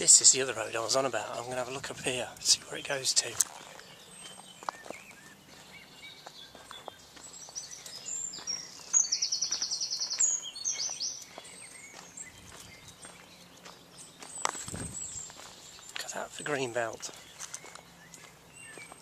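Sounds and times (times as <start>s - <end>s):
loud rapid bird trill: 2.4s - 19.0s
high bird chirps: 2.7s - 19.0s.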